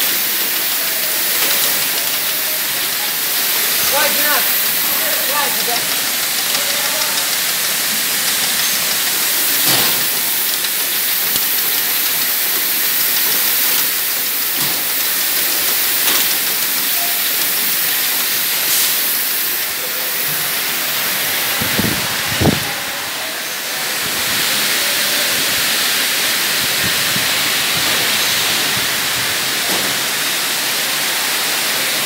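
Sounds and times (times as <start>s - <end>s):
conveyor machinery hiss: 0.0s - 32.0s.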